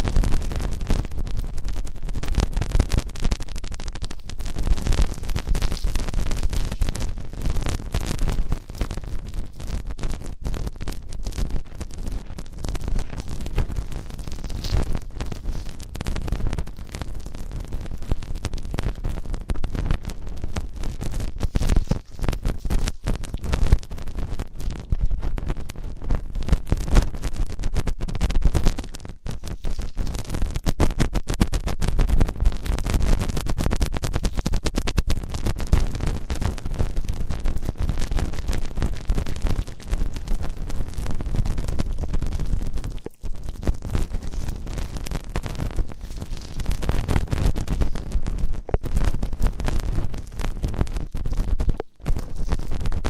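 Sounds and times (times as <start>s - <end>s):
scratching and rubbing on microphone: 0.0s - 53.0s.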